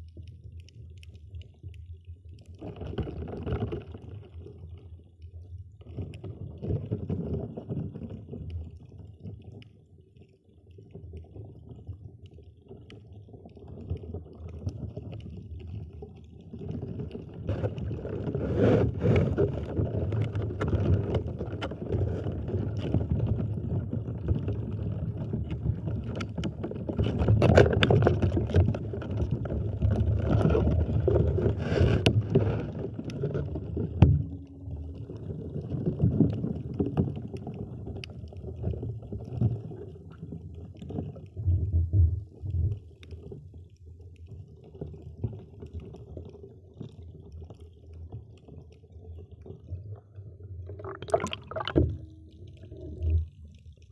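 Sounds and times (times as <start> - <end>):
muffled underwater sloshing: 0.0 - 53.9.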